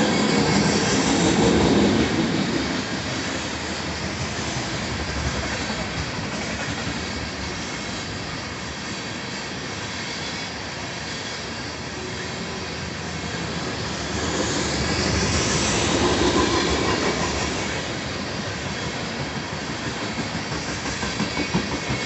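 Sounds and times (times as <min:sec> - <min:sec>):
steel wheels running on rails: 0:00.0 - 0:22.0.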